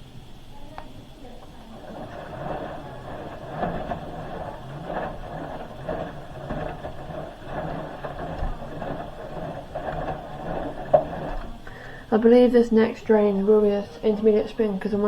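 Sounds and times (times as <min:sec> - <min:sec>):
washing machine motor whirring: 0:00.0 - 0:15.0
water sloshing in drum: 0:01.0 - 0:15.0.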